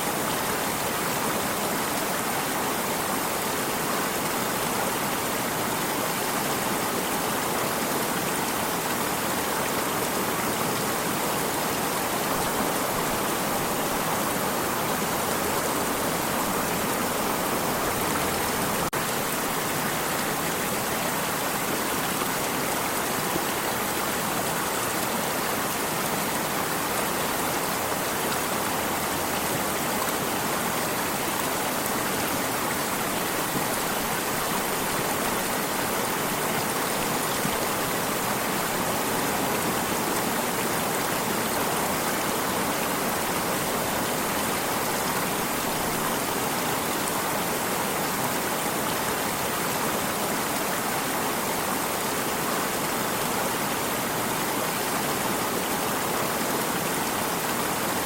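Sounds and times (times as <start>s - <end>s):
stream water rushing and trickling: 0.0s - 58.0s.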